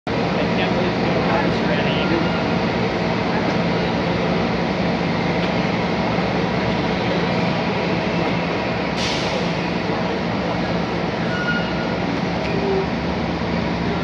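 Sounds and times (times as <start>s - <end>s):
diesel railway engines droning: 0.1s - 14.0s.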